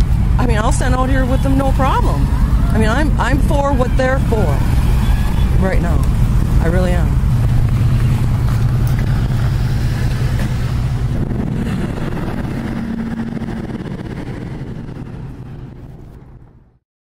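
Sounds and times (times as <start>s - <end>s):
cars passing: 0.0s - 16.8s.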